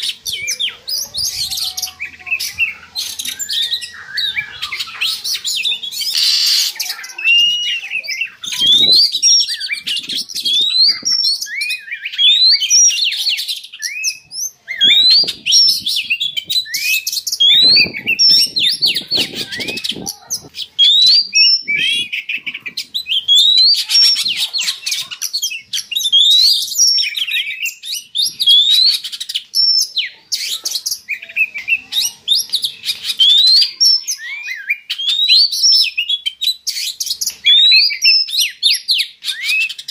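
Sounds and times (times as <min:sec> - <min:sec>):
bird singing whistled notes: 0:00.0 - 0:20.0, 0:20.8 - 0:24.3, 0:25.4 - 0:39.9.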